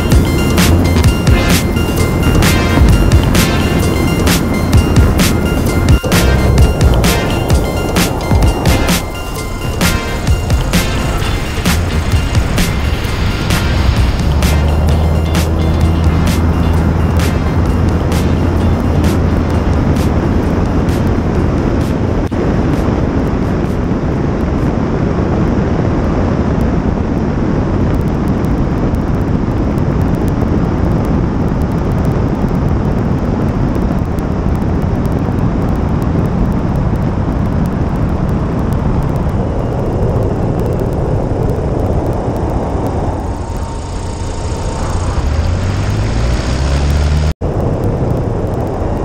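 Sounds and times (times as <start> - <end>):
airplane engine and propeller: 0.0 - 49.0
wind rushing over camera: 0.0 - 49.0.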